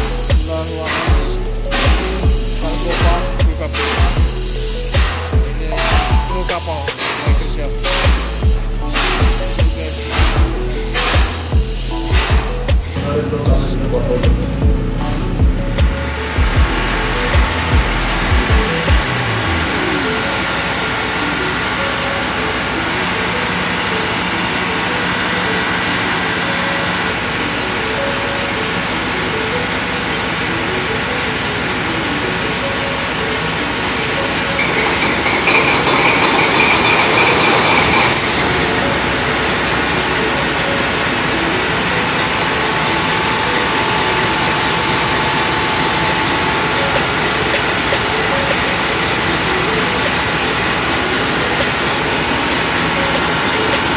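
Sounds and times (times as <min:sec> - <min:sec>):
diesel generator engine din: 0:00.0 - 0:53.9
rush with high whine: 0:00.0 - 0:53.9.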